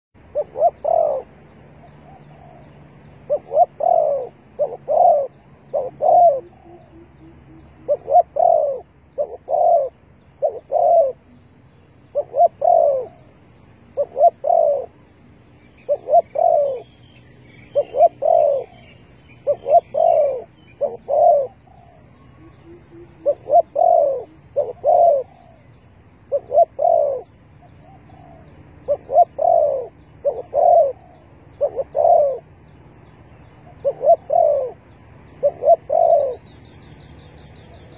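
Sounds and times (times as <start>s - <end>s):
small birds chirping: 0.2s - 37.9s
dove cooing: 0.3s - 11.4s, 12.1s - 15.0s, 15.8s - 16.9s, 17.6s - 32.5s, 33.6s - 36.6s.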